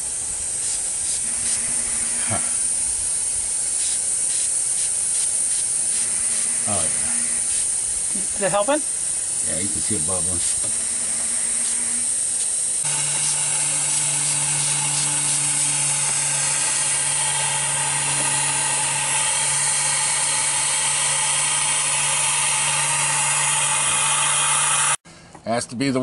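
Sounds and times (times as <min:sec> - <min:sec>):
compressed air hissing: 0:00.0 - 0:25.0
steady low hum: 0:00.0 - 0:25.0.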